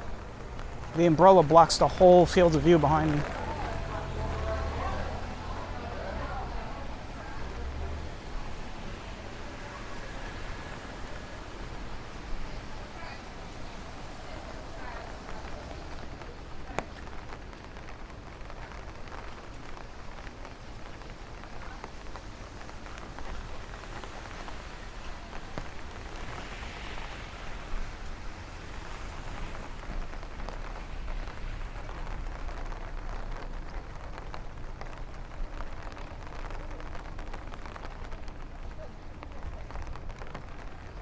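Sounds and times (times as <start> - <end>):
rain on an umbrella: 0.0 - 41.0.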